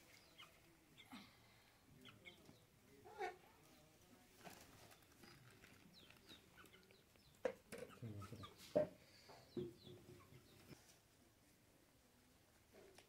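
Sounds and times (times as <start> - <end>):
faint birds chirping: 0.0 - 12.6.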